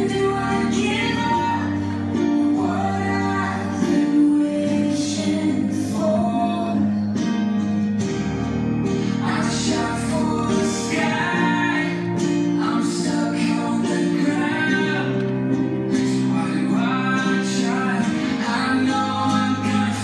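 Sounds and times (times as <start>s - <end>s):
tango song with singer: 0.0s - 20.0s.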